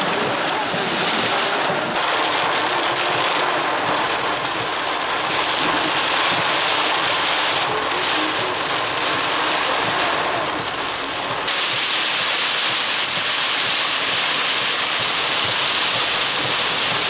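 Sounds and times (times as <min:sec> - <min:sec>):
heavy rain on car windshield: 0:00.0 - 0:17.0.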